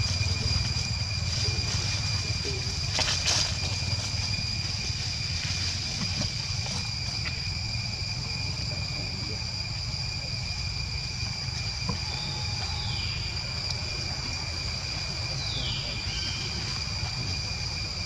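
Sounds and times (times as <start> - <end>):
high-pitched insect drone: 0.0 - 18.0
low rumble: 0.0 - 18.0.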